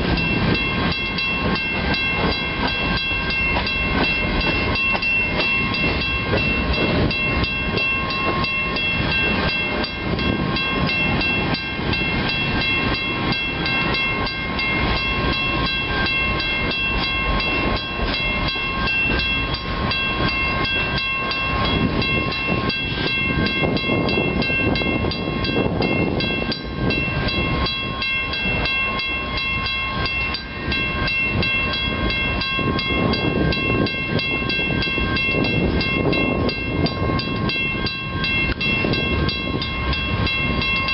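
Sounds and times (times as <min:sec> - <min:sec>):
high ringing tones: 0:00.0 - 0:40.9
wheels rumbling on rails: 0:00.0 - 0:40.9.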